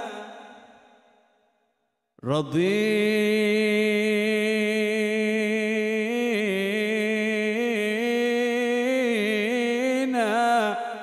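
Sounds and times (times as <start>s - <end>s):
man singing devotional chant: 0.0s - 0.6s, 2.2s - 11.0s.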